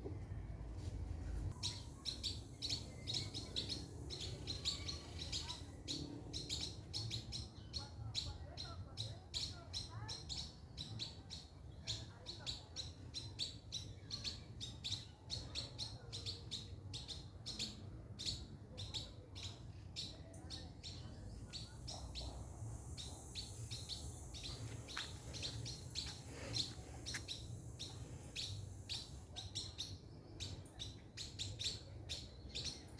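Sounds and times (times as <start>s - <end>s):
small birds chirping: 0.9s - 32.9s.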